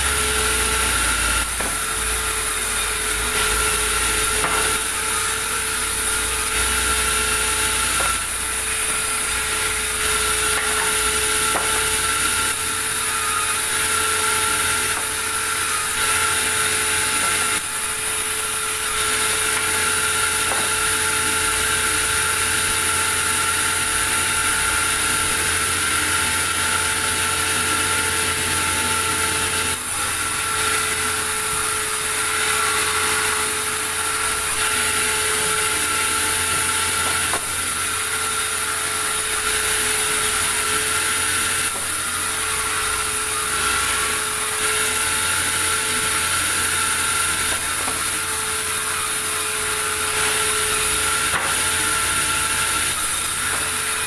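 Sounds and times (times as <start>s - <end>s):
band saw whining: 0.0s - 54.0s
saw blade ripping through log: 0.0s - 54.0s.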